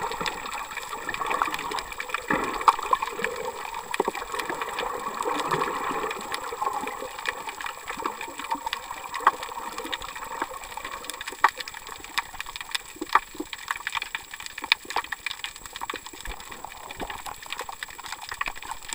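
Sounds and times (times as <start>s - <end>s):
sharp clicks and crackles: 0.0s - 18.9s
water gurgling and sloshing: 0.0s - 18.9s.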